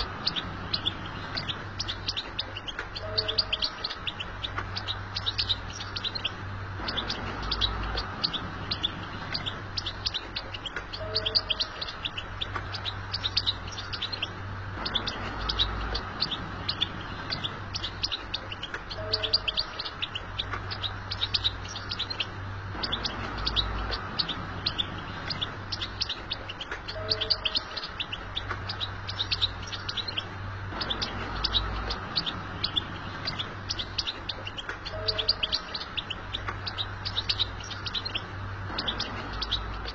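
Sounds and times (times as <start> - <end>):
goldfinch twittering chirps: 0.0 - 39.9
low steady hum: 0.0 - 39.9.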